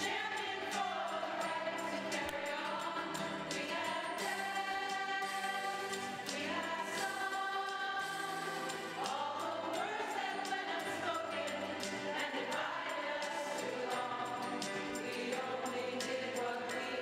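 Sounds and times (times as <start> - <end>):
women singing in chorus: 0.0 - 17.0.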